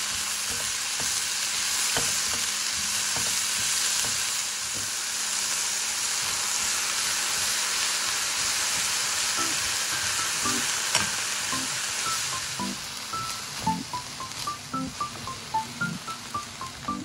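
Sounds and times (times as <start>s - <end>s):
food sizzling in frying pan: 0.0s - 17.0s.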